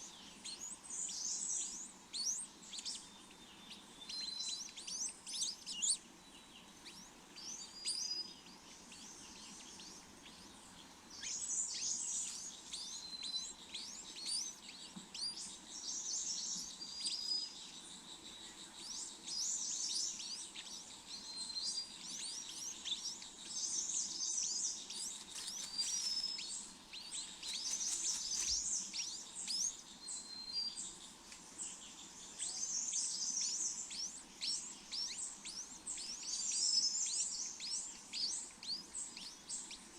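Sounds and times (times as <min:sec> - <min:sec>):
small birds chirping: 0:00.0 - 0:39.9
thin whistled bird notes: 0:00.0 - 0:39.9.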